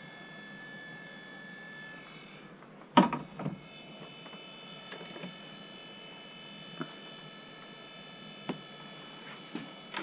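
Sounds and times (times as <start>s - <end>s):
high-pitched electronic whine: 0.0s - 2.6s, 3.3s - 10.0s.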